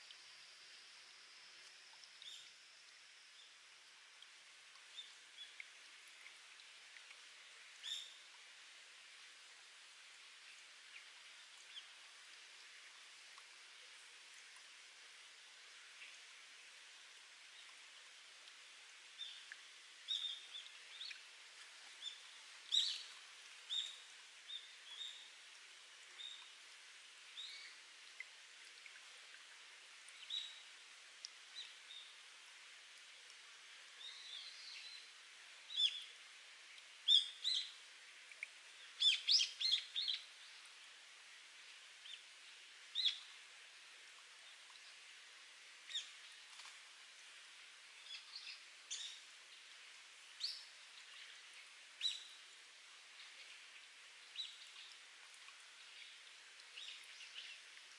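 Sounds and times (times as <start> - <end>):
water trickling: 0.0 - 57.9.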